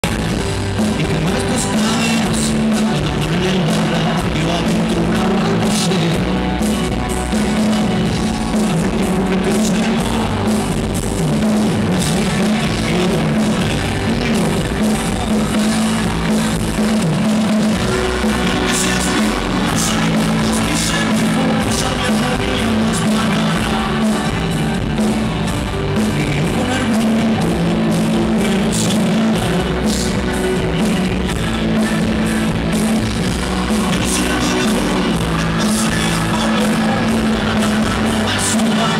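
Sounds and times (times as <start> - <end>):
live rock band playing: 0.0 - 38.9
man singing: 0.0 - 38.9.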